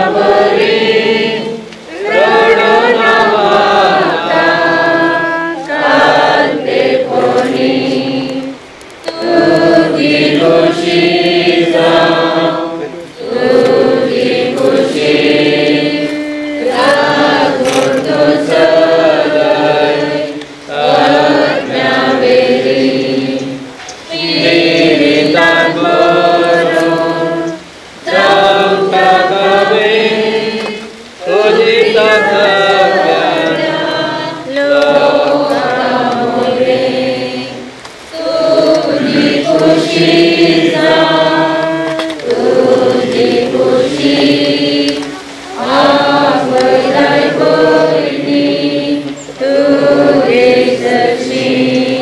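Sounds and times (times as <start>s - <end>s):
group singing a hymn: 0.0s - 52.0s.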